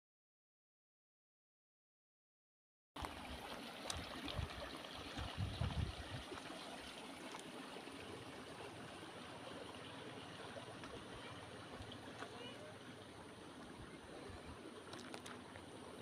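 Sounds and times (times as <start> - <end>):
stream flowing over stones: 3.0 - 16.0.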